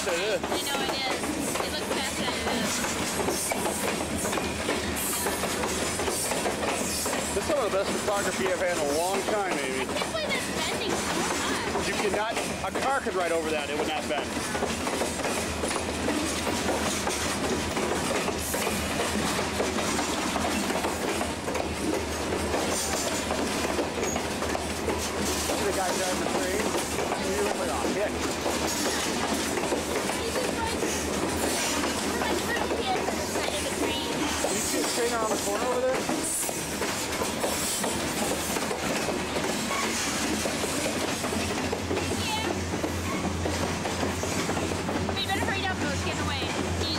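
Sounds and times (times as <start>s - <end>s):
train wheels running on rails: 0.0s - 46.9s.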